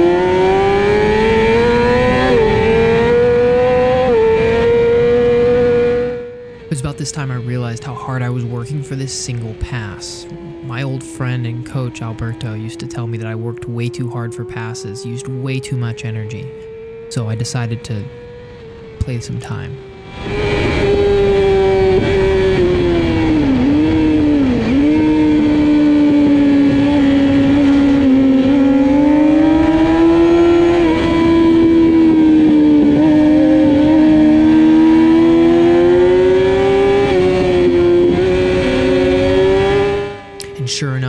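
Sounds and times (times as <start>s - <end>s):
motorcycle engine at high revs: 0.0s - 41.0s.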